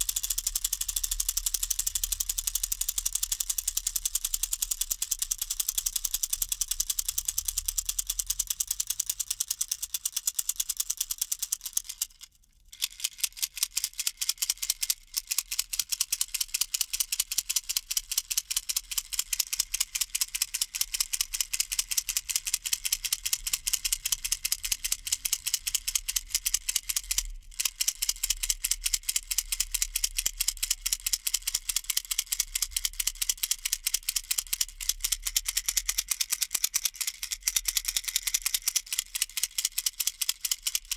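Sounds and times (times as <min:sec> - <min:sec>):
plastic baby rattle shaken: 0:00.0 - 0:40.9.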